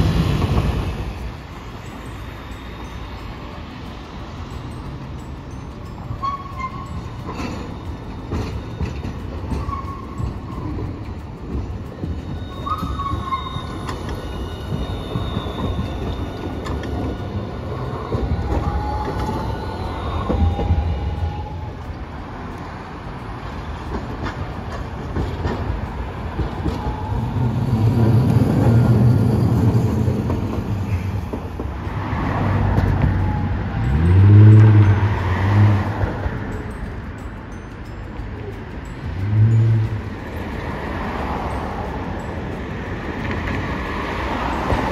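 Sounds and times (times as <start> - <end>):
streetcar wheels squealing: 0.0 - 44.9.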